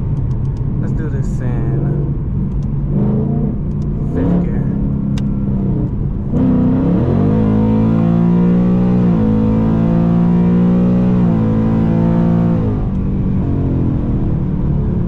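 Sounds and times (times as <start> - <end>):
car engine under hard throttle: 0.0 - 15.0.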